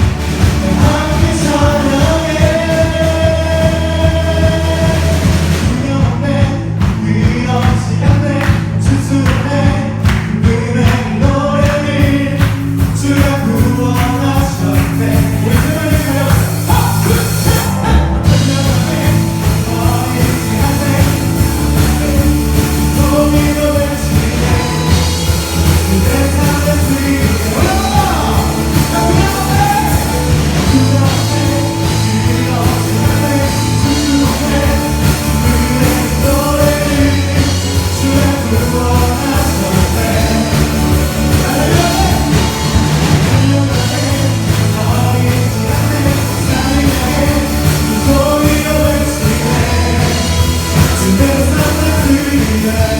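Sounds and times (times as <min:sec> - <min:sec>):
band and singers performing: 0:00.0 - 0:52.9.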